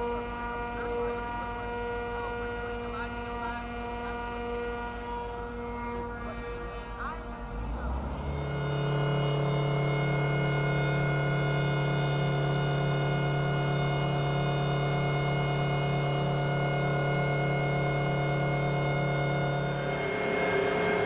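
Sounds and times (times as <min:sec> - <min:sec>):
machine drone: 0:00.0 - 0:21.0.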